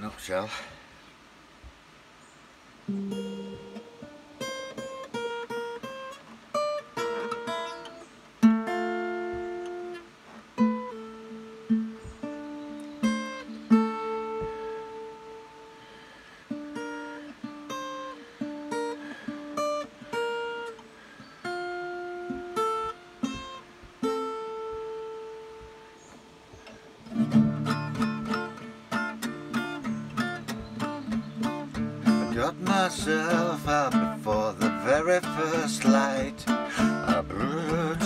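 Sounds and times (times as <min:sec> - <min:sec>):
acoustic guitar picking: 0:02.9 - 0:38.0.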